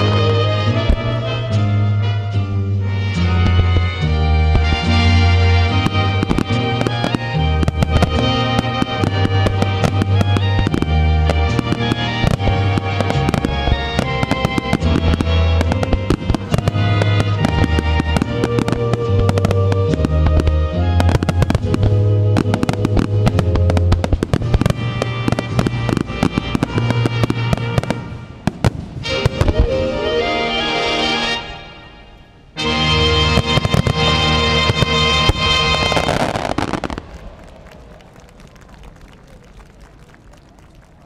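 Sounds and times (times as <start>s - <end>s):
fireworks bursting and crackling: 0.0s - 31.4s, 32.2s - 41.0s.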